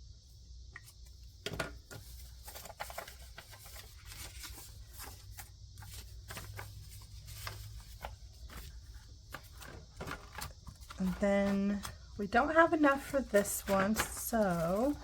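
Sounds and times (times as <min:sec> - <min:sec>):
cicadas droning: 0:00.0 - 0:15.0
paper bills rustling: 0:01.9 - 0:15.0.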